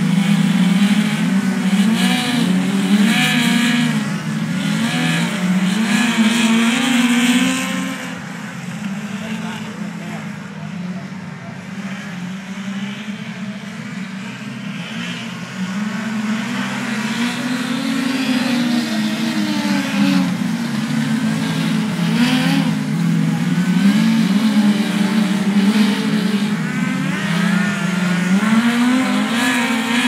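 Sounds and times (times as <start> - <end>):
racing car engines: 0.0 - 30.0.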